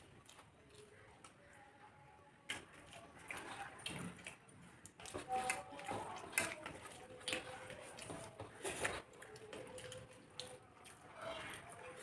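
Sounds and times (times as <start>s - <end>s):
person chewing and smacking: 0.0s - 1.4s, 2.5s - 12.0s.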